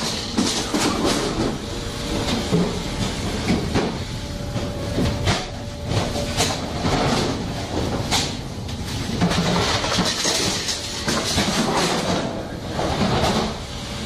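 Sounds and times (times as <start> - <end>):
machinery running: 0.0 - 14.0.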